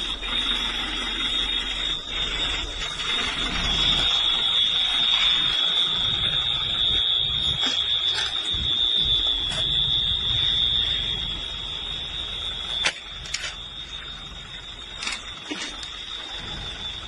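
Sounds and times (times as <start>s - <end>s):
high-pitched alarm tone: 0.0s - 17.0s
low rumbling background: 0.0s - 17.0s.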